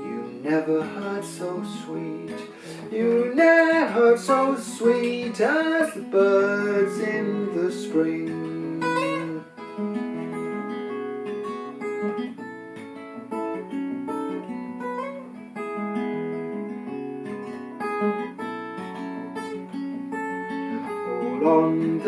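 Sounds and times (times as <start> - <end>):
acoustic guitar picked chords: 0.0 - 22.0.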